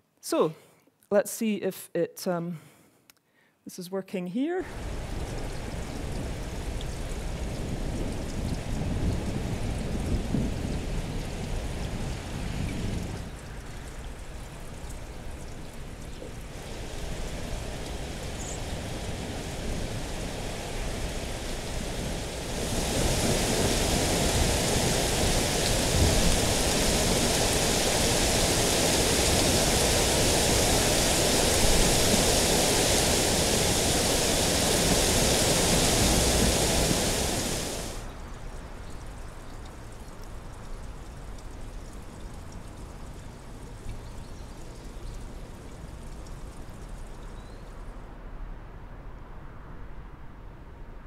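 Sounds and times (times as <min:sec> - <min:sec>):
soft wind: 0:02.3 - 0:51.0
rain: 0:04.6 - 0:51.0.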